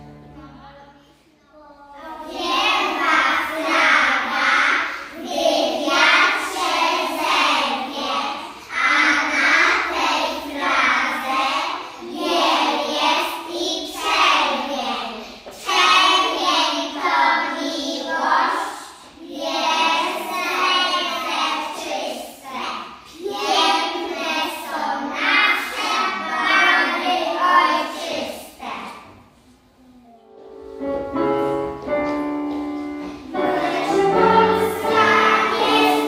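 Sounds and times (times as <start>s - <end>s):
children singing in unison: 2.0s - 28.7s, 33.0s - 36.0s.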